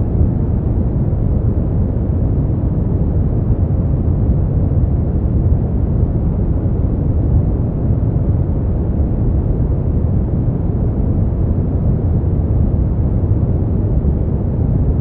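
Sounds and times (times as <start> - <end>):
deep white noise: 0.0 - 15.0.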